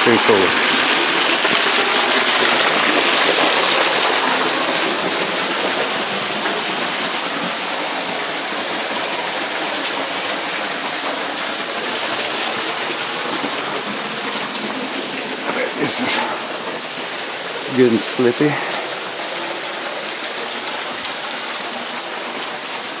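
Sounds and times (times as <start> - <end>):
waterfall splashing onto stones: 0.0 - 23.0.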